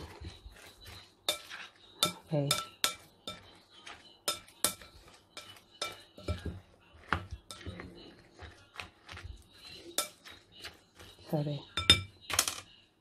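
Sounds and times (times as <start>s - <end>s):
utensil clinking on glass bowl: 0.0s - 12.6s.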